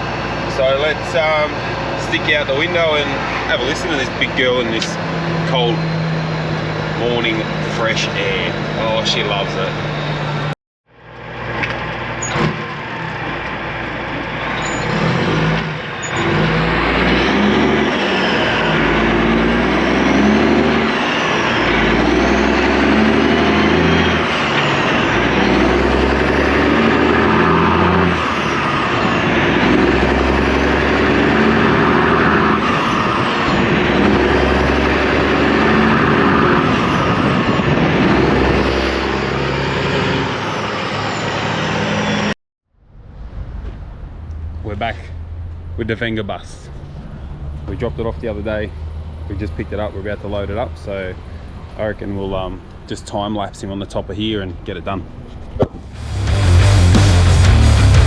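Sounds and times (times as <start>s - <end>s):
truck diesel engine pulling hard: 0.0s - 52.7s, 55.8s - 58.0s.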